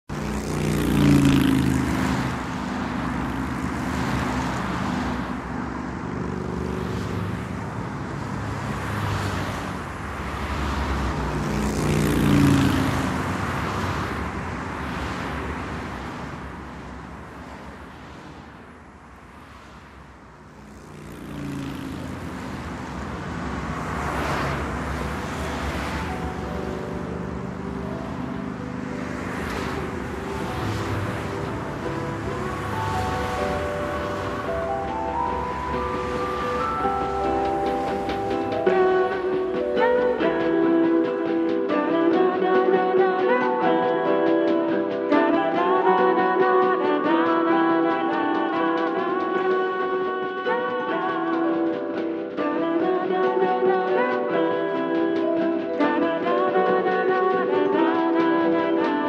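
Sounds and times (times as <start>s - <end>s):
vehicles passing by: 0.0s - 59.0s.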